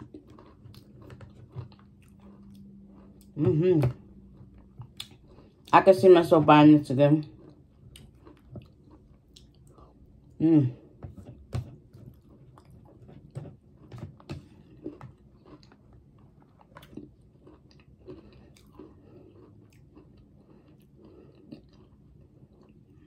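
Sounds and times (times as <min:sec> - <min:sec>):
chewing and smacking: 0:00.0 - 0:05.8, 0:07.2 - 0:23.0.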